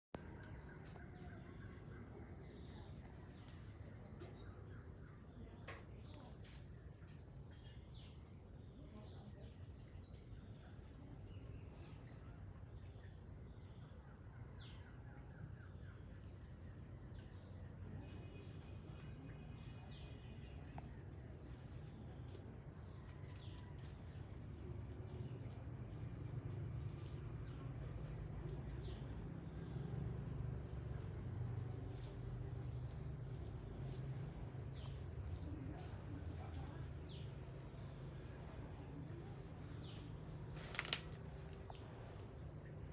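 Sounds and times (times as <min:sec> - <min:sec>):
insects droning: 0:00.2 - 0:42.9.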